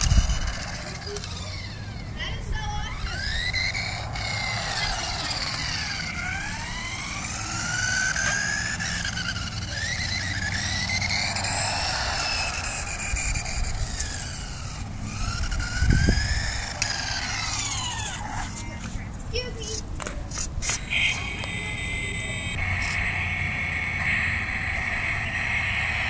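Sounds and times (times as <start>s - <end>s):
rc car motor whining: 0.0s - 26.0s
tyres rumbling on asphalt: 0.0s - 26.0s.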